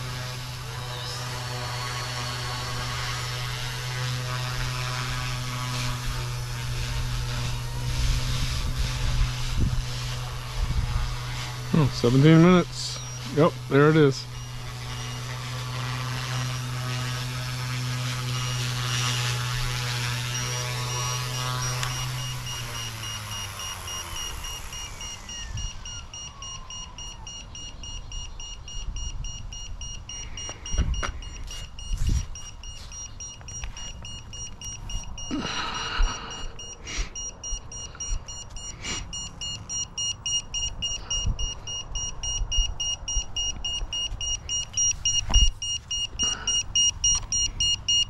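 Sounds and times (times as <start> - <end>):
rc helicopter rotor spinning down: 0.0 - 48.0
rapid electronic beeping: 7.4 - 48.0.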